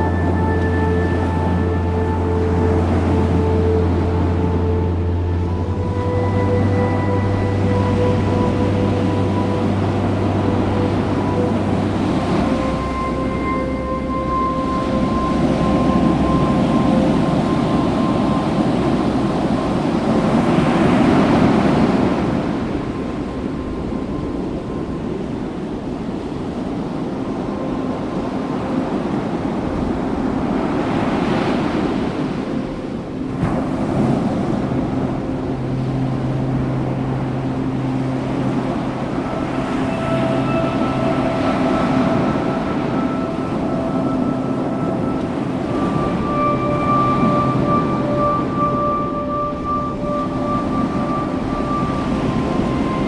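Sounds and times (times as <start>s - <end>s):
ocean surf washing onto beach: 0.0s - 53.0s
soft background music: 0.0s - 53.0s
wind on microphone: 0.0s - 53.0s.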